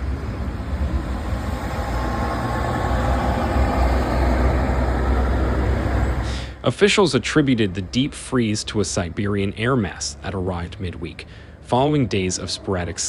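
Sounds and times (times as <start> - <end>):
street noise hiss: 0.0 - 13.0
vehicle engine low rumble: 0.0 - 13.0.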